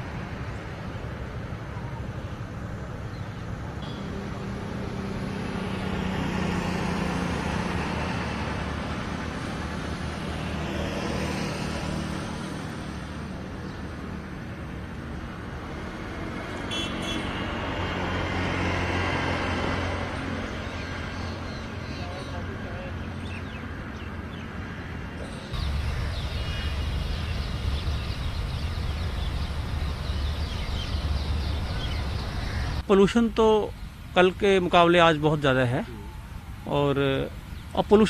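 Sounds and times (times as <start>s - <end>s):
motorcycles passing: 0.0s - 32.8s
cars passing: 0.0s - 33.1s.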